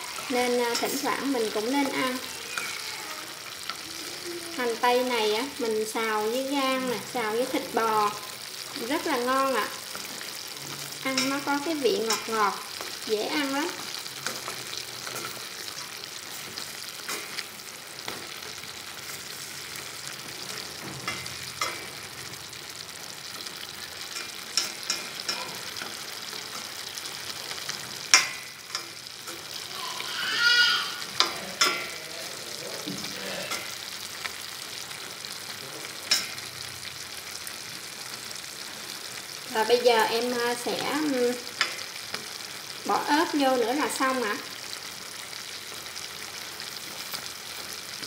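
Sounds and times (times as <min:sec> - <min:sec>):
food sizzling in a pan: 0:00.0 - 0:48.0.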